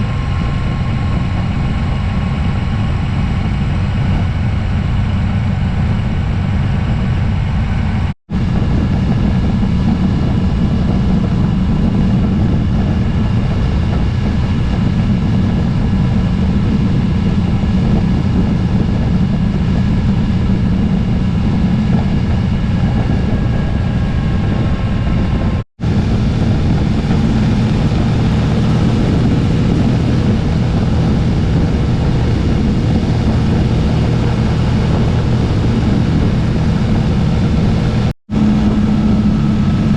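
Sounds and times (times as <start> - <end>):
motorcycle engine: 0.0 - 39.9
wind rumble on microphone: 0.0 - 39.9.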